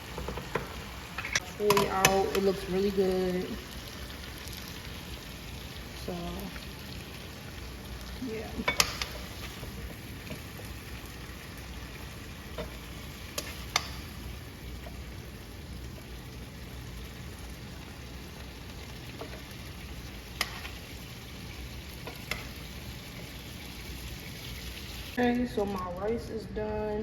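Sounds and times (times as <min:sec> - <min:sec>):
chicken sizzling in a frying pan: 0:00.0 - 0:25.8.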